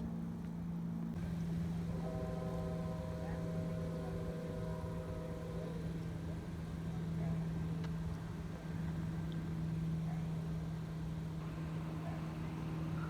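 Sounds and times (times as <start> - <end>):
engine running low hum: 0.0 - 13.0.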